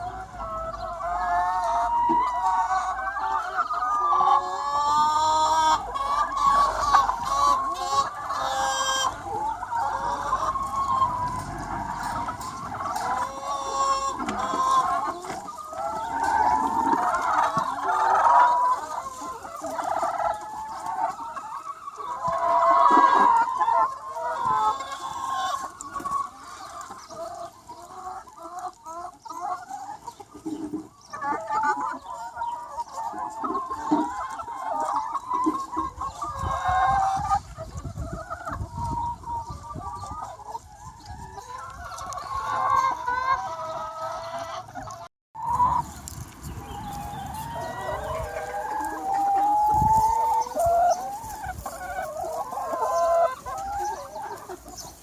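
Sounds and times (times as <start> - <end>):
chickens clucking and calling: 0.0 - 55.0.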